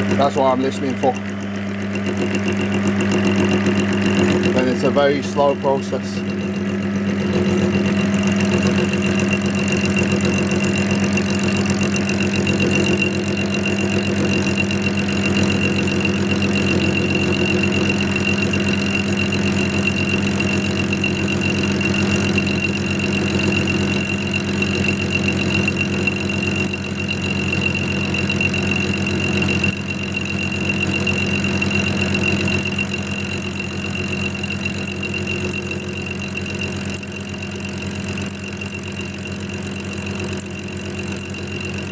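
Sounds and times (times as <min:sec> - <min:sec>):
lathe humming and whining: 0:00.0 - 0:41.9.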